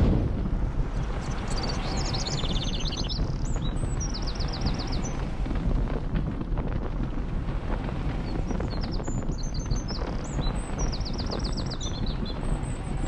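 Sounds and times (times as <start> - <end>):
steady low rumble: 0.0 - 13.0
small birds chirping: 0.7 - 6.0, 7.5 - 13.0.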